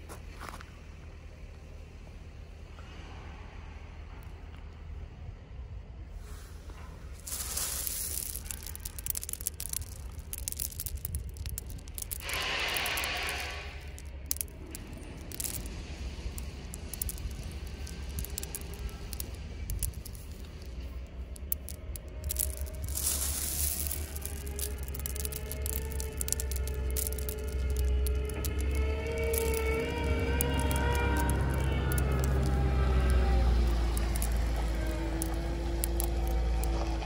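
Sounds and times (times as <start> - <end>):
gravel stones clicking and rattling: 7.0 - 37.0.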